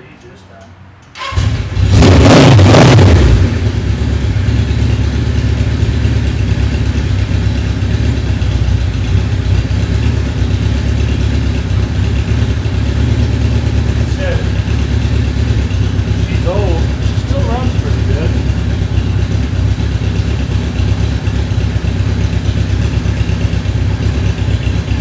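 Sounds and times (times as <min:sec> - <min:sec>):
motorcycle engine idling: 0:03.4 - 0:25.0.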